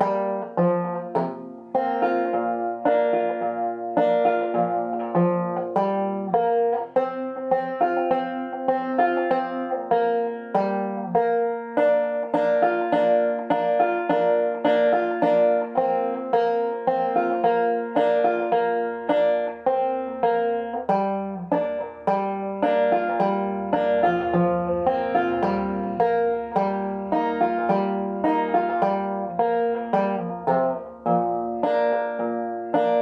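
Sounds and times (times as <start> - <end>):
banjo plucked melody: 0.0 - 33.0.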